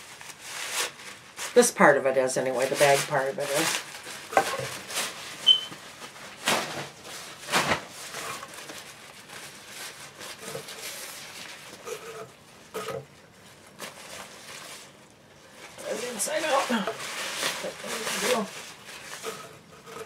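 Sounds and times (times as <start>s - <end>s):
nylon bag rustling: 2.5s - 12.2s, 13.4s - 19.8s.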